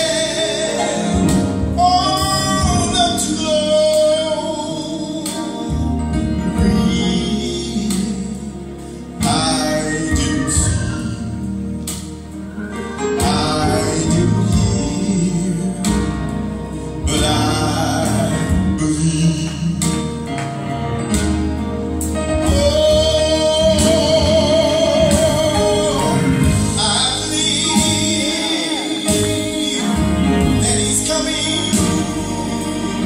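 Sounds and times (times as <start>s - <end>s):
man singing gospel: 0.0s - 12.1s, 12.8s - 33.0s
instrumental backing track: 0.0s - 33.0s.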